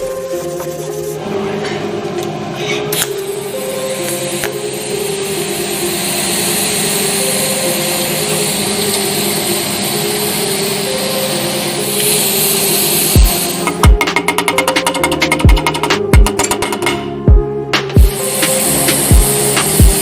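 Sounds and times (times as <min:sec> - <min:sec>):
faint background music: 0:00.0 - 0:20.0
loud machine noise: 0:00.2 - 0:17.1, 0:17.9 - 0:20.0.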